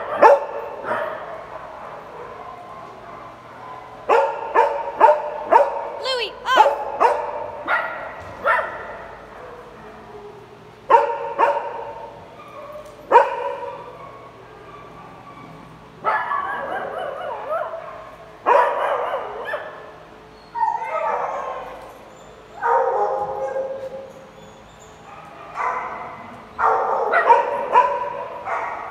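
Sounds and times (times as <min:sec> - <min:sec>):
small dogs barking and yipping: 0:00.0 - 0:10.3, 0:10.9 - 0:28.9.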